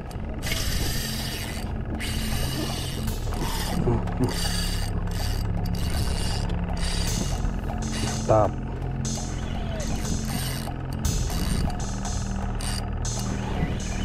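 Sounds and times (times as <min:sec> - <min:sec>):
fishing reel ratcheting whir: 0:00.0 - 0:14.0
steady low hum: 0:00.0 - 0:14.0.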